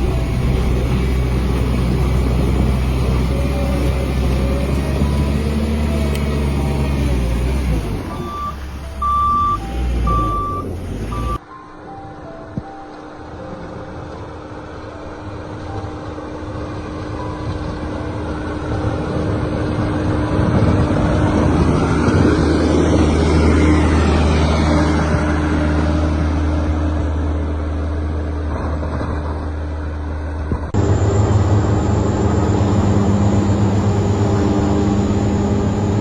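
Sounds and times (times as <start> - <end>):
heavy machine engine drone: 0.0 - 11.4, 12.7 - 36.0.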